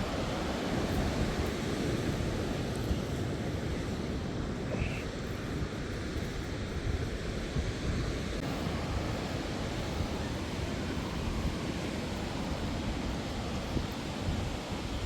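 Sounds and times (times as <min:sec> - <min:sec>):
ocean surf washing onto beach: 0:00.0 - 0:15.0
wind on microphone: 0:00.0 - 0:15.0.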